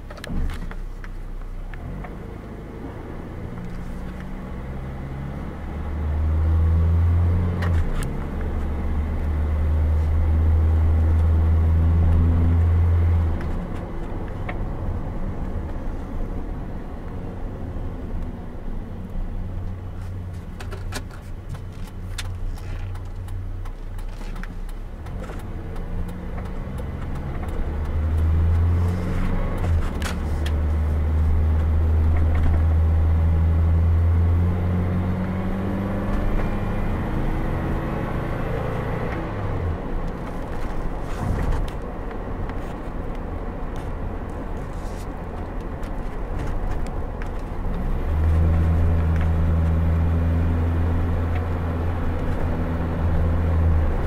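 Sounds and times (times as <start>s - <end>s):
car engine hum: 0.0s - 54.0s
road noise: 0.0s - 54.0s.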